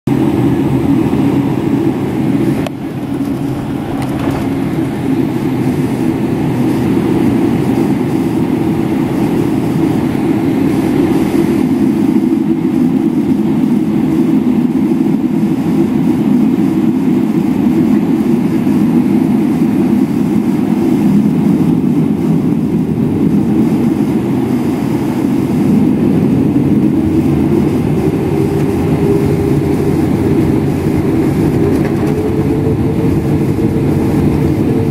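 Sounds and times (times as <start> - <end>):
jet engines deep rumble: 0.1 - 34.9
wheels rumbling over runway: 0.1 - 34.9.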